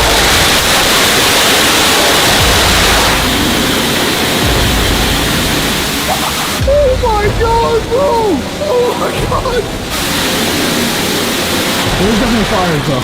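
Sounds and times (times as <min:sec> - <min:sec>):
firework hissing: 0:00.0 - 0:13.0.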